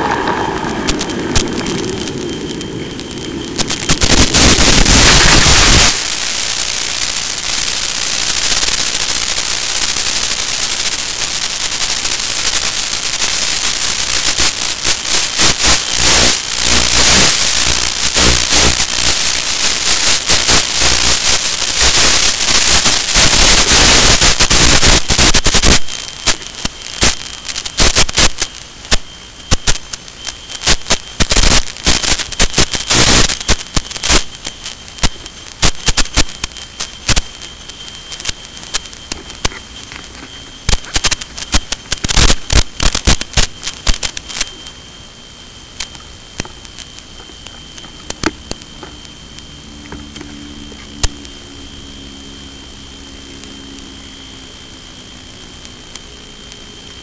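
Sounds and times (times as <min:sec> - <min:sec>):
radio static hiss and crackling: 0:00.0 - 0:57.0.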